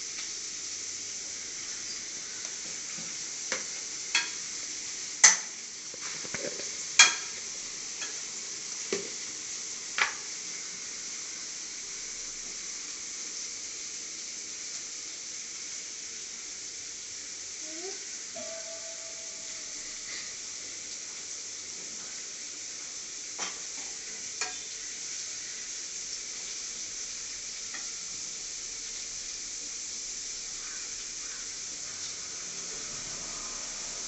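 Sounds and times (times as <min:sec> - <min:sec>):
cabbage sizzling in a pan: 0:00.0 - 0:34.0.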